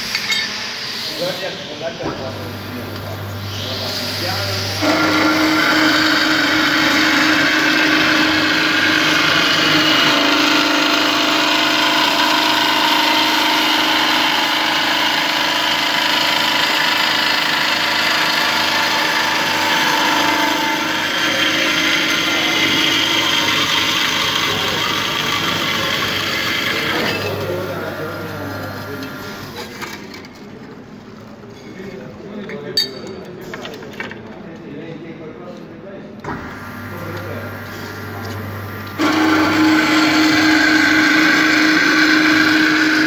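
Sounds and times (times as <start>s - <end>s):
band saw running: 1.1s - 30.1s, 36.3s - 43.0s.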